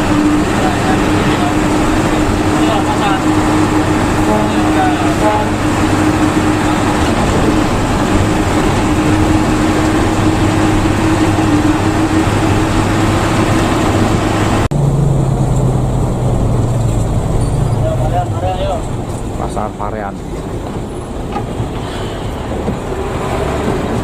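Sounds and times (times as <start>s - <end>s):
bus engine hum: 0.0s - 24.0s
road and tyre noise: 0.0s - 24.0s.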